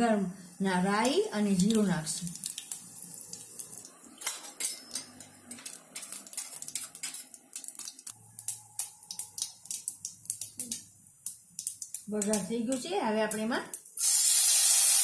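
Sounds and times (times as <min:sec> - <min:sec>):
seeds spluttering in hot oil: 0:00.4 - 0:15.0.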